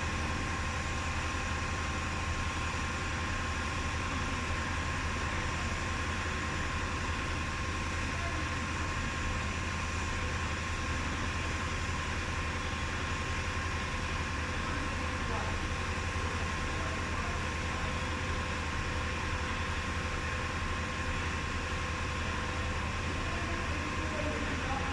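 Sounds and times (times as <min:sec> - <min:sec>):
low mechanical hum: 0:00.0 - 0:24.9
thin steady whine: 0:00.0 - 0:24.9.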